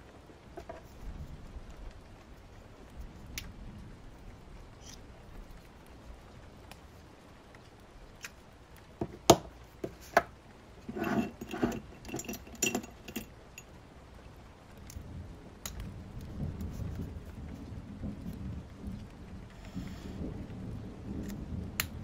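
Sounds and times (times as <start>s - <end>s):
rain and thunder rumble: 0.0s - 11.0s, 11.6s - 22.0s.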